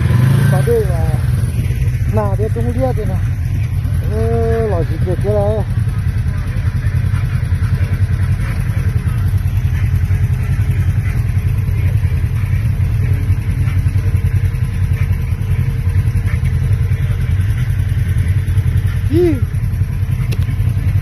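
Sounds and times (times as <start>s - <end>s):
off-road vehicle engines rumbling: 0.0s - 21.0s.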